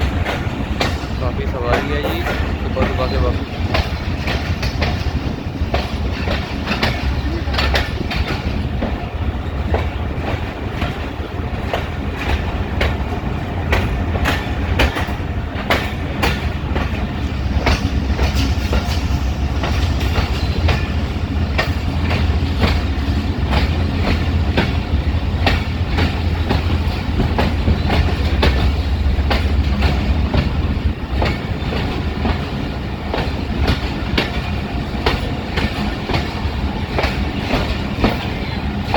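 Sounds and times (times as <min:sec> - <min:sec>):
train low rumble: 0:00.0 - 0:38.9
train wheels clacking: 0:00.0 - 0:38.9.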